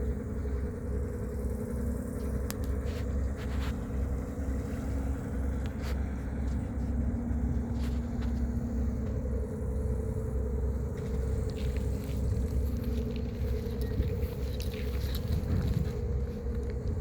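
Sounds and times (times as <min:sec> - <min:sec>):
continuous low rumble: 0:00.0 - 0:17.0
ferry engine drone: 0:00.0 - 0:17.0.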